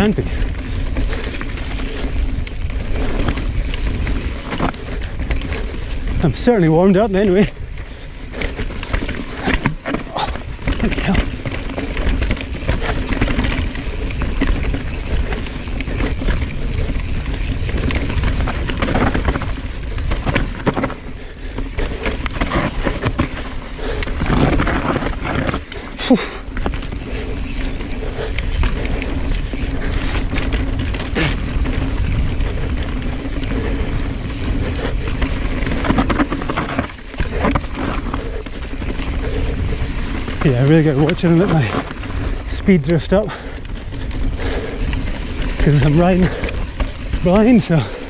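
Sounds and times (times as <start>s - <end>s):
bike tyres rumbling over rocks: 0.0s - 48.0s
chain and frame rattling: 0.0s - 48.0s.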